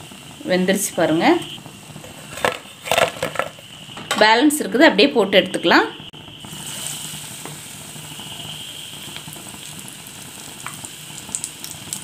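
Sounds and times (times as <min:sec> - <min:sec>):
okra sizzling in hot oil: 0:00.0 - 0:12.0.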